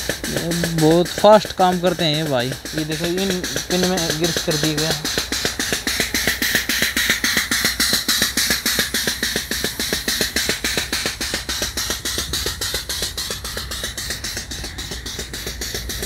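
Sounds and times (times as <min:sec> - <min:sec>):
air grease pump rattling: 0:00.0 - 0:16.0.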